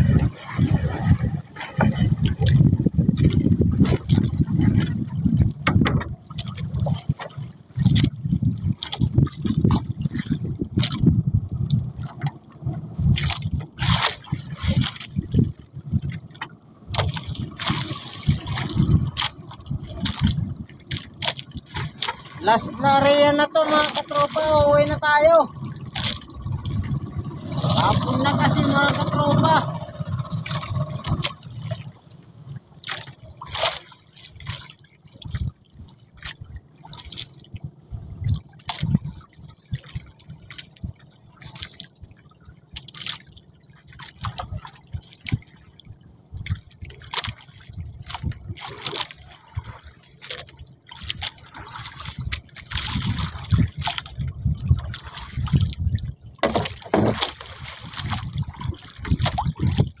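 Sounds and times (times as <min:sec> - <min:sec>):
sea water sloshing: 0:00.0 - 1:00.0
small water splashes: 0:00.0 - 1:00.0.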